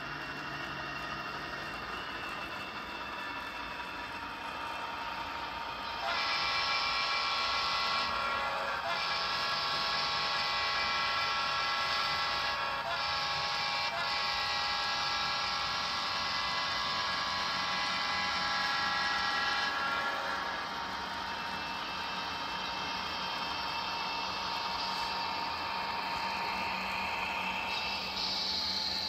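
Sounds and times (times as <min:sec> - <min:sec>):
steady engine hum: 0:00.0 - 0:29.0
model locomotive diesel horn: 0:03.2 - 0:29.0.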